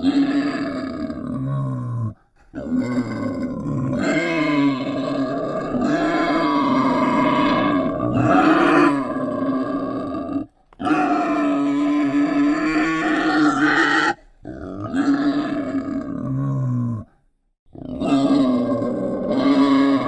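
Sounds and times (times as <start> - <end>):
wild boar grunting: 0.0 - 17.1.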